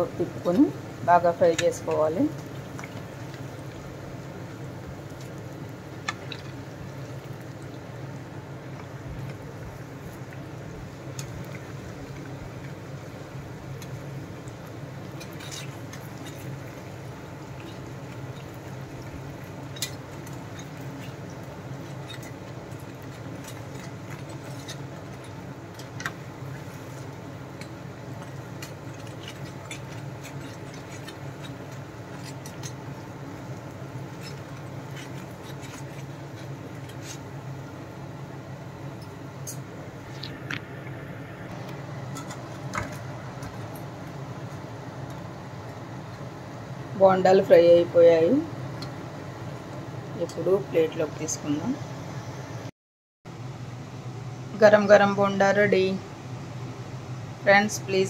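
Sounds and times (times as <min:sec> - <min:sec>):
food deep-frying in oil: 0:00.0 - 0:52.7
low steady hum: 0:00.0 - 0:52.7, 0:53.3 - 0:58.0.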